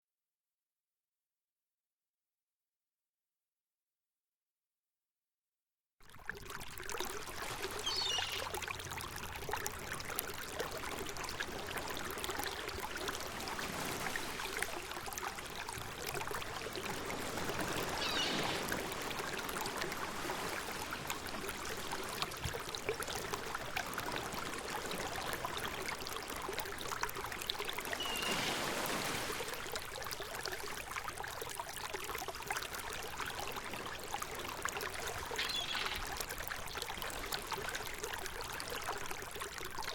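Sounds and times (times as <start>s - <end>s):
flowing water: 6.0s - 39.9s.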